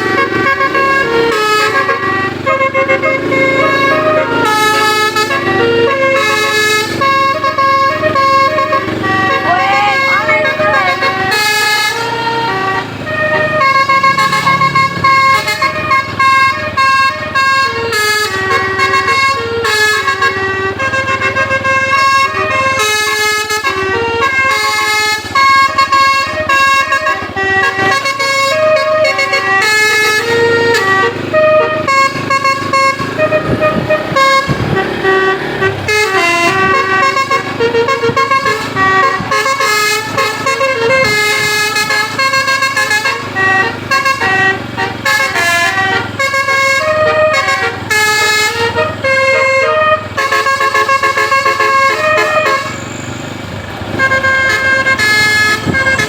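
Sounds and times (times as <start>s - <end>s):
multi-tone air horn playing tune: 0.0s - 56.0s.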